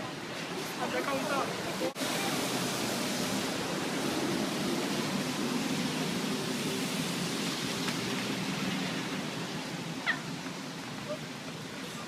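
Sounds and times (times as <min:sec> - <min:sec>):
car traffic on wet street: 0:00.0 - 0:12.0
rain: 0:00.0 - 0:12.0.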